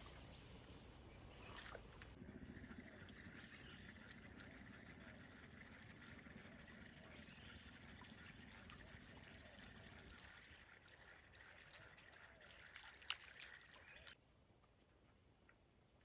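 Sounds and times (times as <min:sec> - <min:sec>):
faint water trickling: 0:00.0 - 0:16.0.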